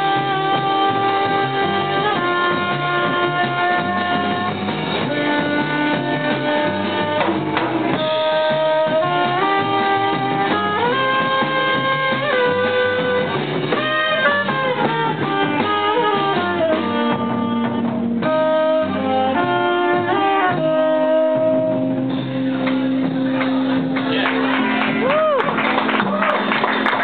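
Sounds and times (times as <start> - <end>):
saxophone sliding notes: 0.0 - 22.5
electric guitar: 0.0 - 27.0
upright bass: 0.0 - 27.0.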